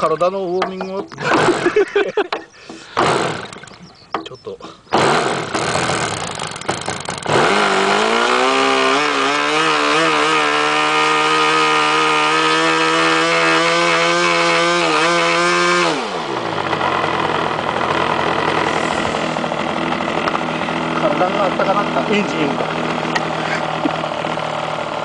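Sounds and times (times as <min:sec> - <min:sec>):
model engine running: 0:01.1 - 0:02.0, 0:03.0 - 0:03.9, 0:04.9 - 0:25.0.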